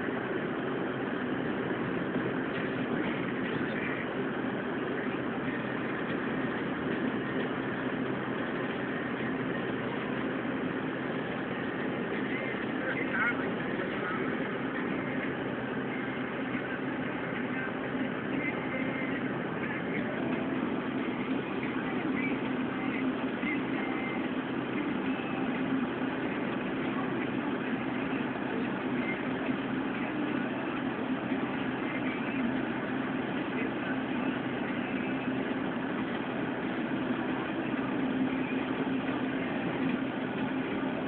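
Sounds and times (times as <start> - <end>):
vehicle engine hum and road noise: 0.0 - 41.0.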